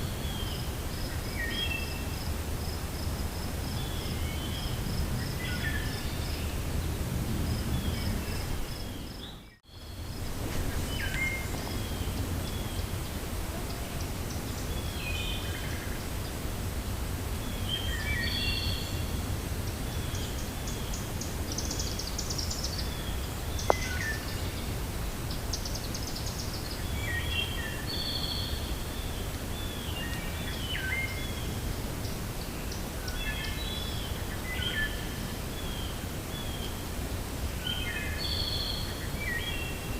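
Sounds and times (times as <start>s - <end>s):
small birds chirping: 0.0s - 16.4s, 17.4s - 36.8s
low wind: 0.0s - 39.9s.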